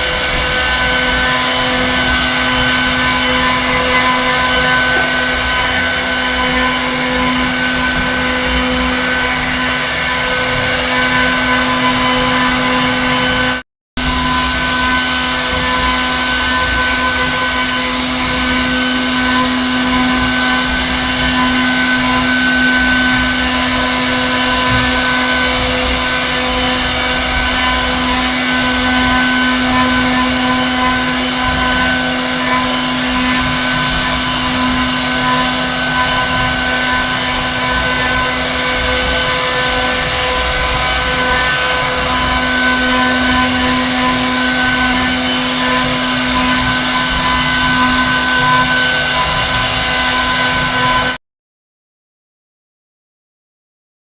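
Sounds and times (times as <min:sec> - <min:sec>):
router spindle motor whine: 0:00.0 - 0:51.2
wood cutting noise: 0:00.0 - 0:51.2.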